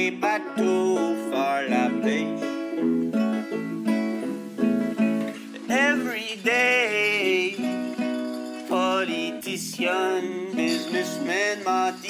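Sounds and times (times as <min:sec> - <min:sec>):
banjo and guitar folk-pop: 0:00.0 - 0:12.0
wordless vocal melody: 0:00.0 - 0:12.0.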